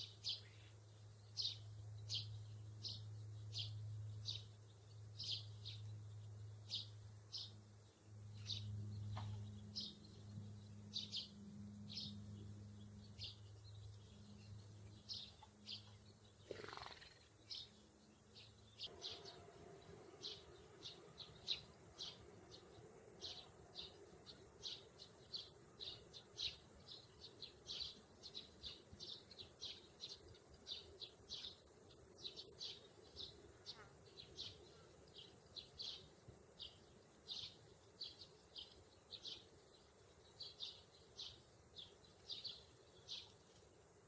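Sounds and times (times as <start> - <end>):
sparrows chirping: 0.0 - 44.0.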